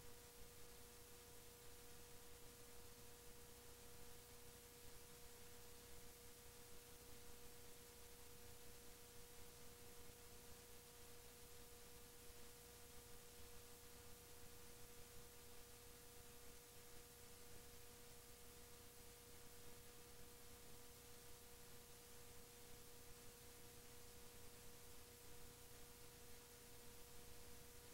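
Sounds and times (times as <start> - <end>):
faint electrical tone: 0.0 - 27.9
low tape hiss: 0.0 - 27.9.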